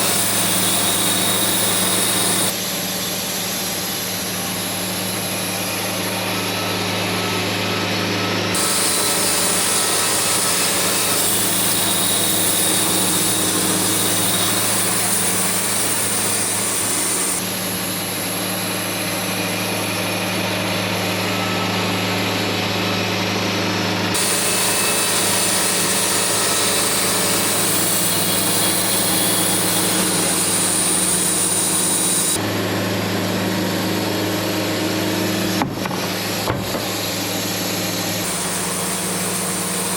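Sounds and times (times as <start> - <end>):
loud hissing cutting noise: 0.0 - 22.1, 24.1 - 39.9
small engine running: 0.0 - 39.9.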